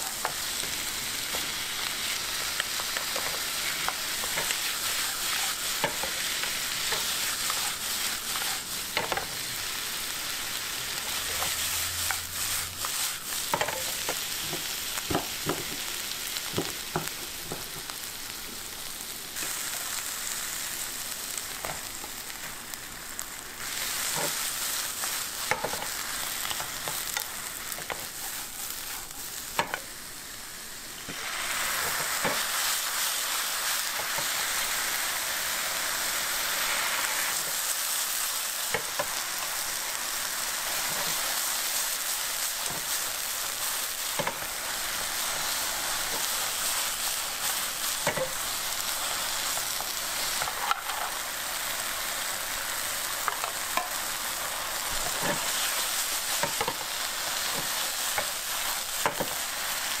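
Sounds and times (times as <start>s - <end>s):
food sizzling in a frying pan: 0.0s - 60.0s.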